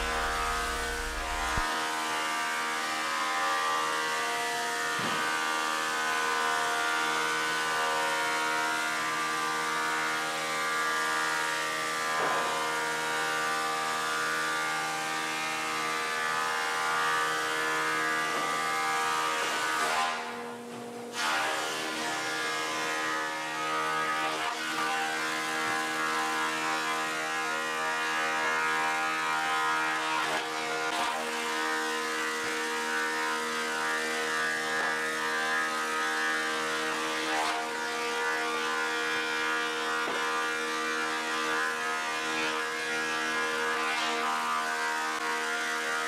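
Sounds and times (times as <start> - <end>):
thickness planer whine: 0.0 - 46.0.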